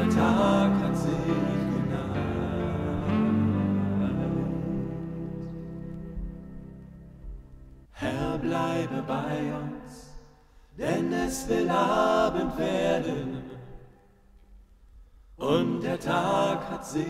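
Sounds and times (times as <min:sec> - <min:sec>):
voices singing a slow chant: 0:00.0 - 0:06.4, 0:07.9 - 0:14.2, 0:15.4 - 0:17.0.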